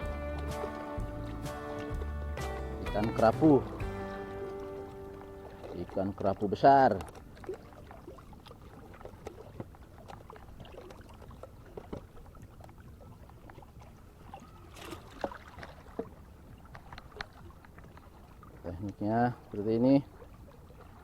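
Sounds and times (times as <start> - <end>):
water lapping and sloshing: 0.0 - 21.0.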